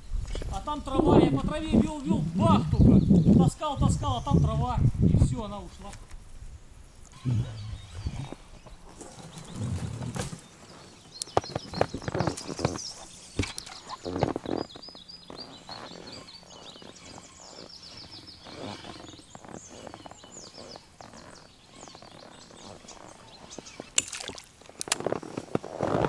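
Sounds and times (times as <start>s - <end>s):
small birds chirping: 0.0s - 6.2s, 6.8s - 26.0s.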